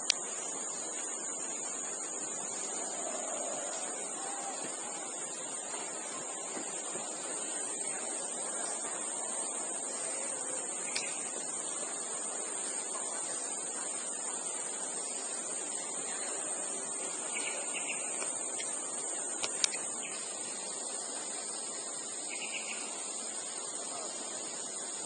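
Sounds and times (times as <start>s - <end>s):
outdoor hiss: 0.0s - 25.0s.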